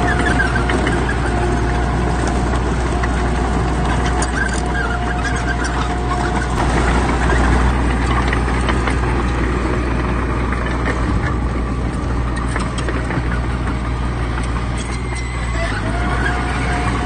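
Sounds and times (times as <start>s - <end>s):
diesel machinery engine drone: 0.0s - 17.0s.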